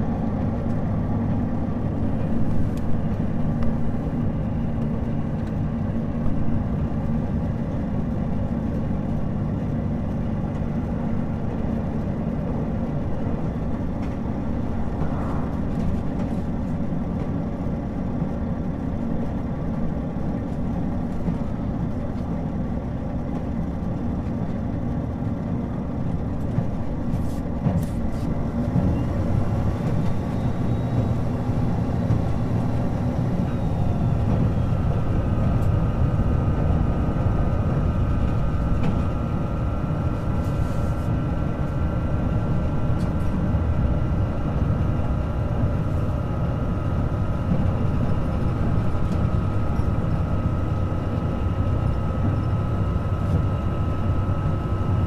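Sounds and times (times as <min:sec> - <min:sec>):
diesel engine droning: 0:00.0 - 0:55.0
train wheels rumbling on rails: 0:00.0 - 0:55.0.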